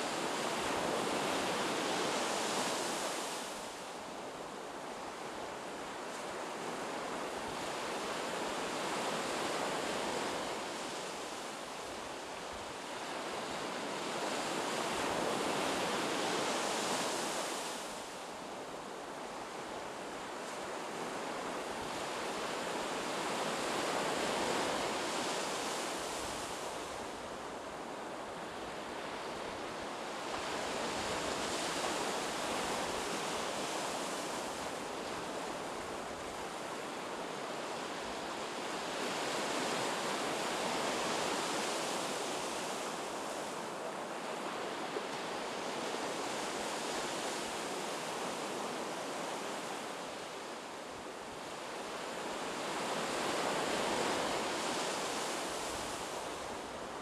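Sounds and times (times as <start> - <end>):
waves breaking on sandy beach: 0.0 - 57.0.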